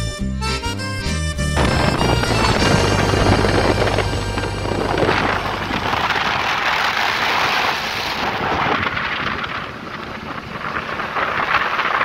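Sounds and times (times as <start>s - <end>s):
wind buffeting microphone: 1.4s - 12.0s
water rushing past hull: 1.6s - 12.0s.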